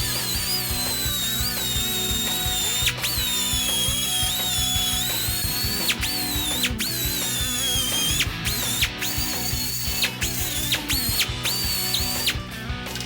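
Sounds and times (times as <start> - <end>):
background music: 0.0 - 13.0
power tool whining: 0.0 - 13.0.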